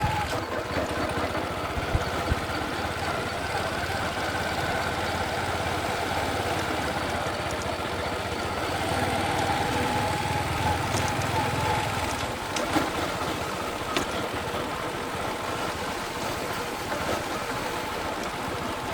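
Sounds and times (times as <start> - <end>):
small motorbike engine running: 0.0 - 18.9.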